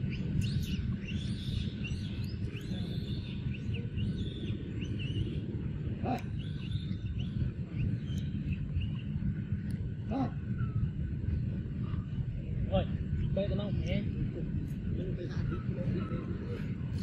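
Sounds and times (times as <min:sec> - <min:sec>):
small birds chirping: 0:00.0 - 0:14.1
steady low rumble: 0:00.0 - 0:17.0.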